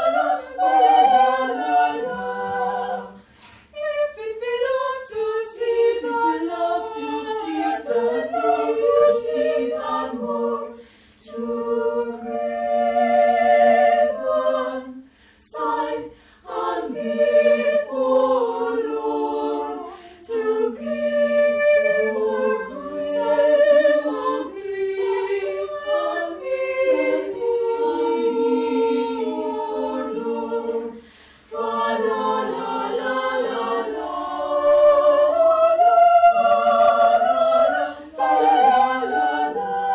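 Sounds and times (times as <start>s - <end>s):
mixed choir singing a cappella: 0.0s - 39.9s.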